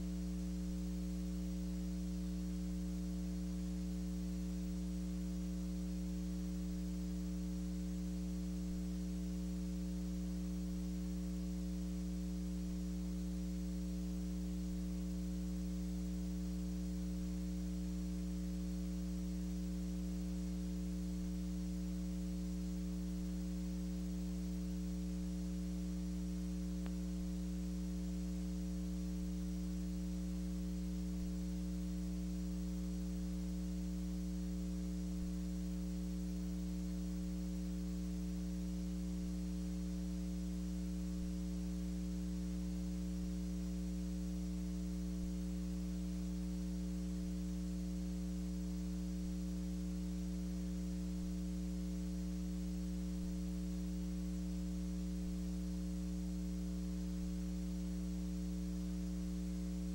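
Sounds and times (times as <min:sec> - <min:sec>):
electrical mains hum: 0:00.0 - 0:59.9
faint hiss: 0:00.0 - 0:59.9.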